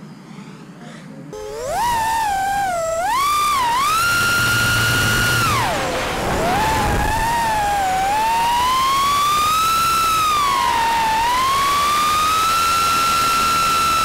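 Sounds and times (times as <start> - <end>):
drone motors whining: 1.3 - 14.0.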